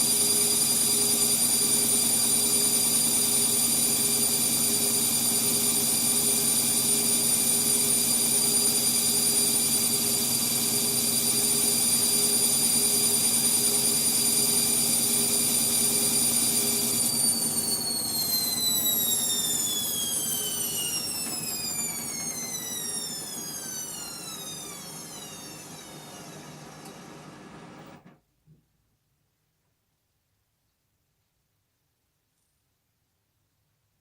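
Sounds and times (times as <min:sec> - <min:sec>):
washing machine drum spinning down: 0:00.0 - 0:27.8.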